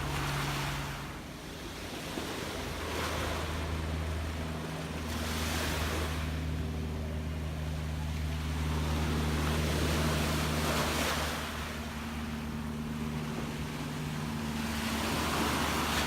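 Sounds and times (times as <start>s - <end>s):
low hum: 0.0s - 16.0s
sea waves washing in: 0.0s - 16.0s.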